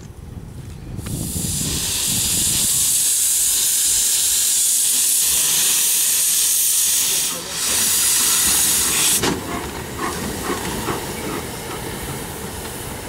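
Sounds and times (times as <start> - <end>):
steam hissing from locomotive: 1.0 - 13.0.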